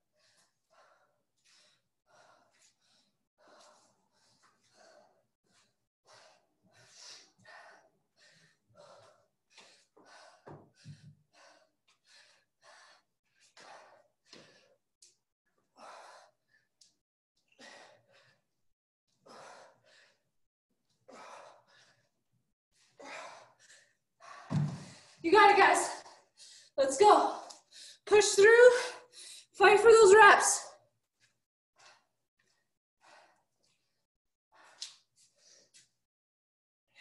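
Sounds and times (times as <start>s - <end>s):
person breathing hard: 0.0s - 14.8s, 15.7s - 16.8s, 17.5s - 20.4s, 21.0s - 25.2s, 26.0s - 28.0s, 31.2s - 35.9s.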